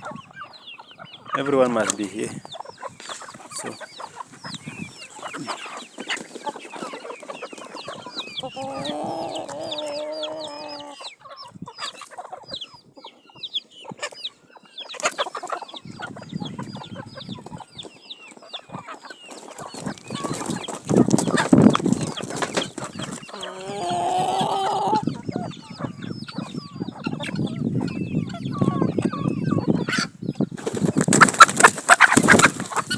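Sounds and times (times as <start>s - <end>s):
chickens clucking: 0.0s - 32.9s
chicks peeping: 0.0s - 32.9s
drawn-out chicken call: 0.0s - 32.9s.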